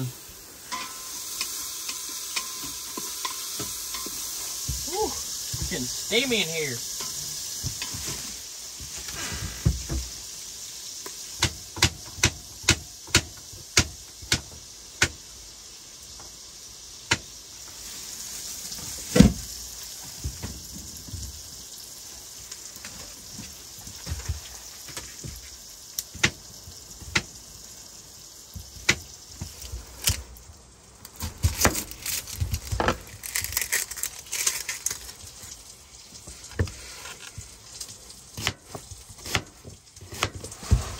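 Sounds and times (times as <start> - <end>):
pork sizzling in a pot: 0.0 - 40.9.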